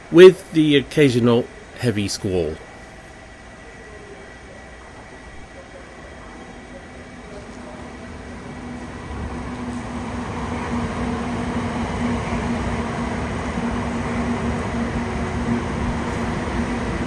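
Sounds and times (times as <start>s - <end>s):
bullet train rushing: 0.0s - 17.0s.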